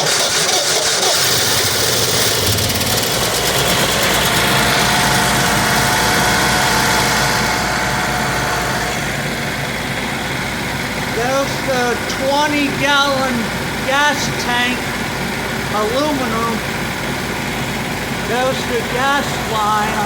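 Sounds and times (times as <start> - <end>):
generator engine running: 0.0 - 20.0.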